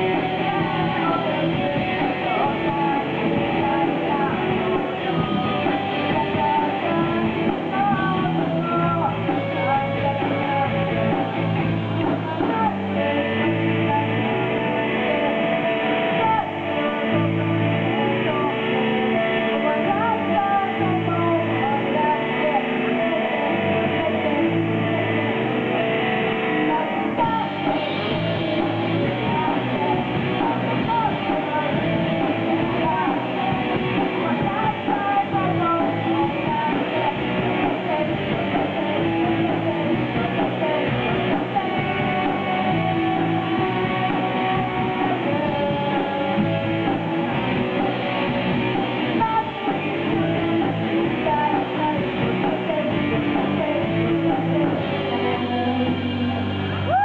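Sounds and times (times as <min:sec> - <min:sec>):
bass guitar: 0:00.0 - 0:57.0
electric guitar: 0:00.0 - 0:57.0
person singing: 0:00.0 - 0:57.0.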